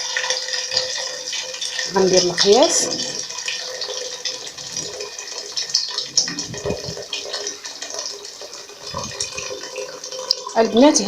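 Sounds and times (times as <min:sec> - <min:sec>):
water pouring into pot: 0:00.0 - 0:11.0.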